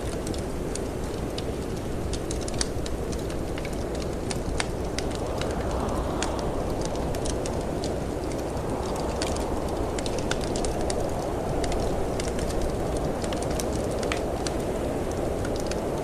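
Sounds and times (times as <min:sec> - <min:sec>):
storm wind rumbling: 0:00.0 - 0:16.0
wood fire crackling: 0:00.0 - 0:16.0.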